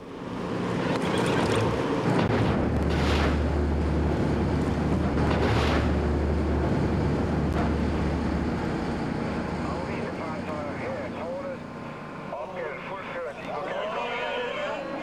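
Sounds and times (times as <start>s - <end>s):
low rumble at sea: 0.0s - 15.0s.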